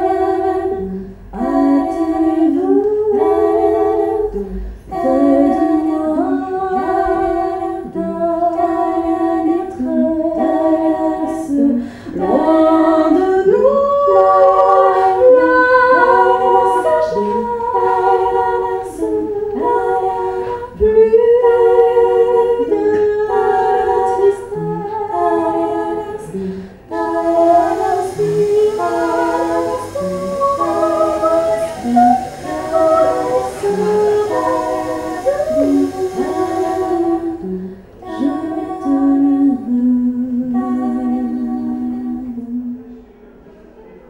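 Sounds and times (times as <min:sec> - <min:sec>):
voices singing in harmony: 0:00.0 - 0:42.9.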